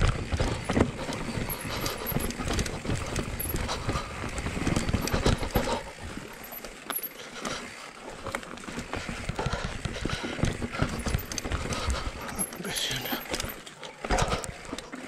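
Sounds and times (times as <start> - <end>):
bike frame rattle: 0.0 - 15.0.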